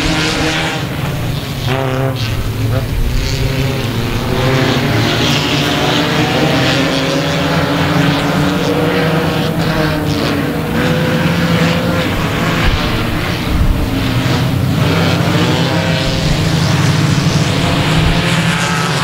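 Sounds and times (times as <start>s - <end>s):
many car engines droning: 0.0s - 19.0s.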